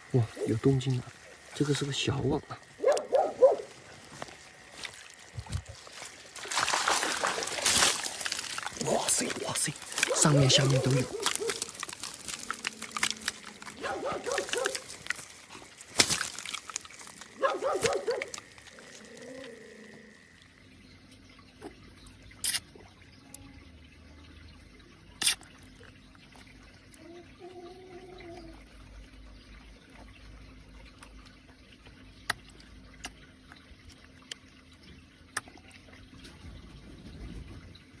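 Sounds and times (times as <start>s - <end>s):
water trickling and dripping: 0.0s - 38.0s.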